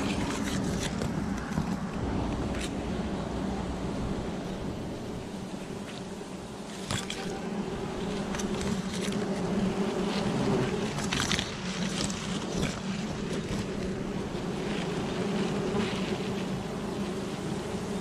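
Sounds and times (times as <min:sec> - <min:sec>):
bees buzzing: 0:00.0 - 0:18.0
rustles and crackles: 0:00.0 - 0:18.0.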